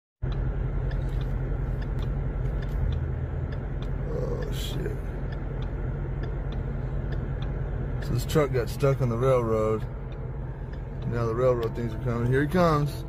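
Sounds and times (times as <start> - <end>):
idling engine rumble: 0.2 - 13.0.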